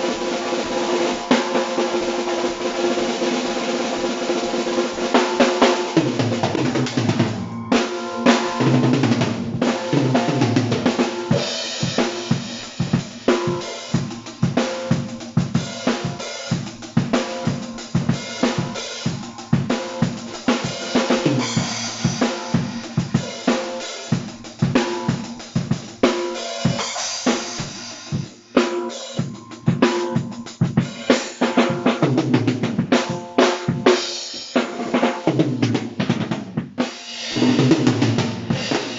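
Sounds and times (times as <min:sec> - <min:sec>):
crashing cymbals: 0:00.0 - 0:31.8, 0:36.9 - 0:38.9.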